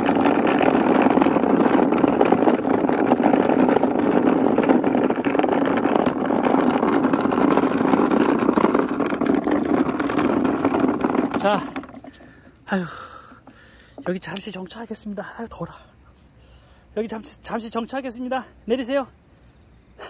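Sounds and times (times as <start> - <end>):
cart wheels rolling over asphalt: 0.0 - 15.8, 17.0 - 19.1.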